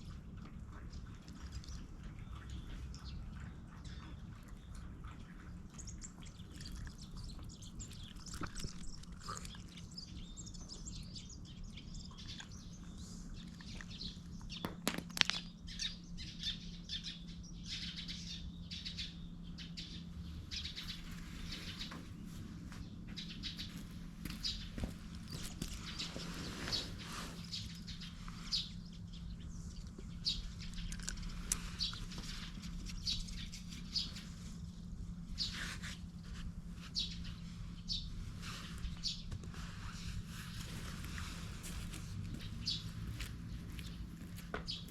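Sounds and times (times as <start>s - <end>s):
low steady hum: 0.0s - 44.9s
small birds chirping: 0.0s - 44.9s.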